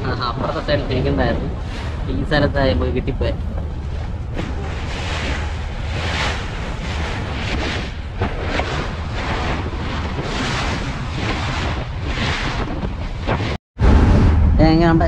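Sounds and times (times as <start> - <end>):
low engine drone: 0.0 - 15.0
water splashing along hull: 0.0 - 15.0
wind buffeting microphone: 0.0 - 15.0.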